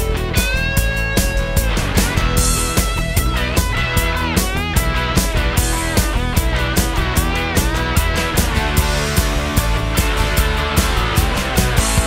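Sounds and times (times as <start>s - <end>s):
guitar long held notes: 0.0s - 12.0s
steady drum beat: 0.0s - 12.0s.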